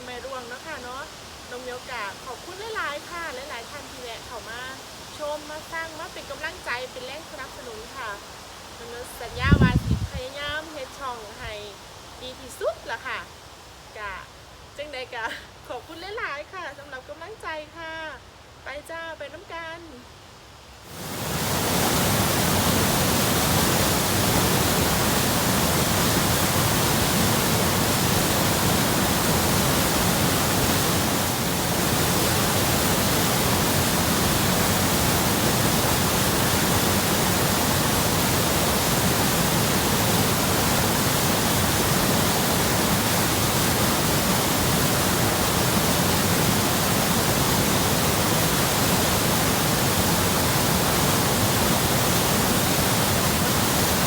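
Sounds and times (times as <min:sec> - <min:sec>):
small waterfall rushing: 0:00.0 - 0:18.7, 0:19.3 - 0:54.0.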